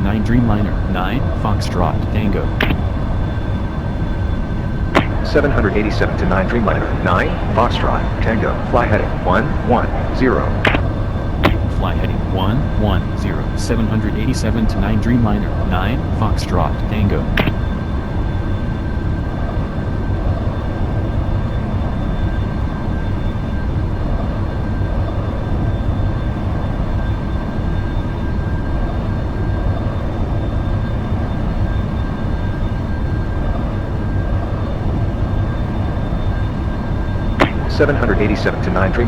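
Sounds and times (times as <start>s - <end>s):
jet airliner engine rumble: 0.0s - 39.0s.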